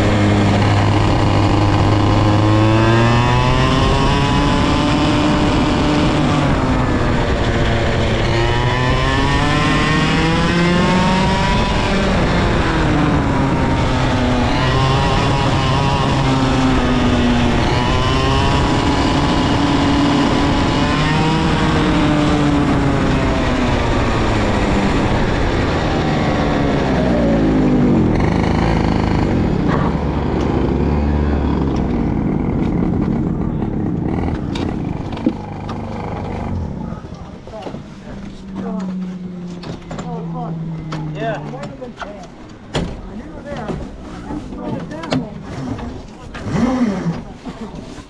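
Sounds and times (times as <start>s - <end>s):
kart engine revving: 0.0s - 48.0s.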